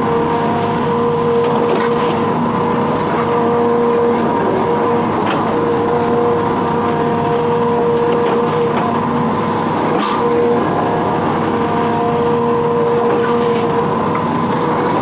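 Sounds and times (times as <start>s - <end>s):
diesel engine running: 0.0s - 15.0s
held whine: 0.0s - 15.0s.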